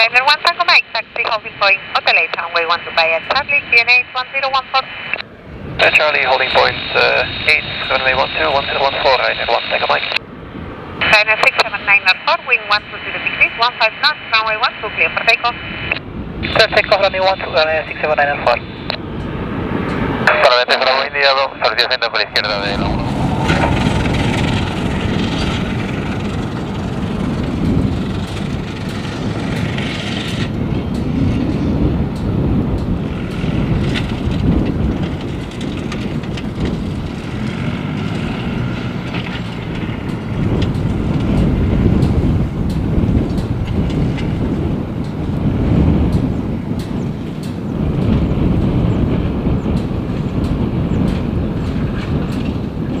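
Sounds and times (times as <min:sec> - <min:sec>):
jet engines and wheels rumbling: 0:00.0 - 0:53.0.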